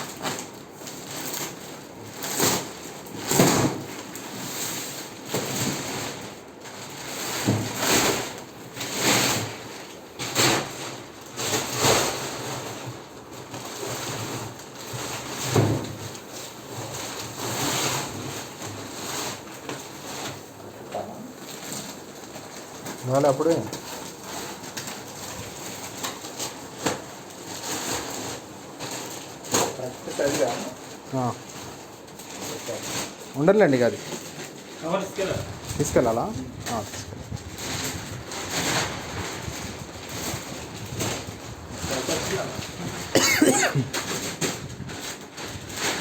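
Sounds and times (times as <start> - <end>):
plastic packaging crinkling: 0.0 - 46.0.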